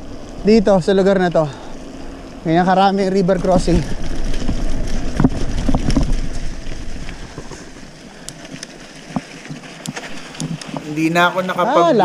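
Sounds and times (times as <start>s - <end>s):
mountain bike riding rumble: 0.0s - 12.0s.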